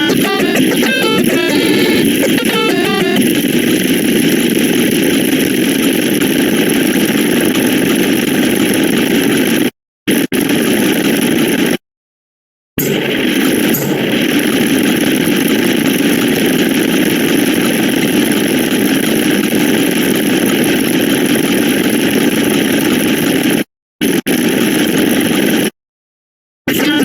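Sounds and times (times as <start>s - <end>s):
harsh electronic noise: 0.0s - 11.6s, 12.8s - 23.4s.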